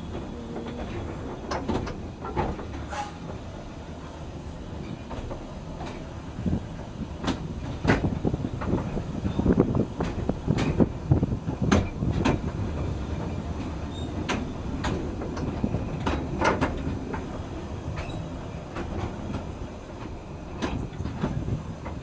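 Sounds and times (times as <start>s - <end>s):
carriage wheels rumbling on track: 0.0s - 3.4s, 7.2s - 22.0s
wheels clicking over rail joints: 0.0s - 22.0s.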